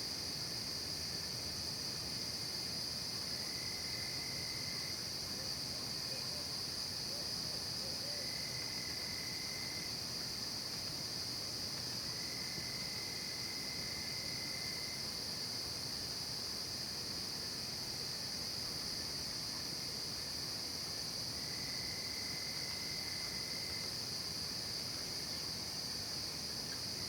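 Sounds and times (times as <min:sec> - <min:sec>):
lower insect trill: 0:00.0 - 0:27.0.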